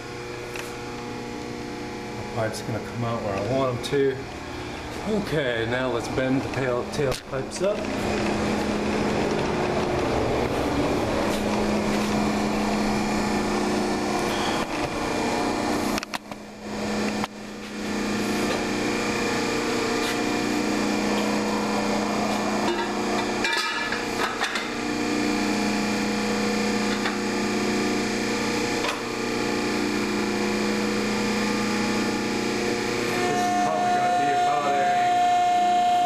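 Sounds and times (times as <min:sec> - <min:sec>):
hydraulic pump humming: 0:00.0 - 0:36.0.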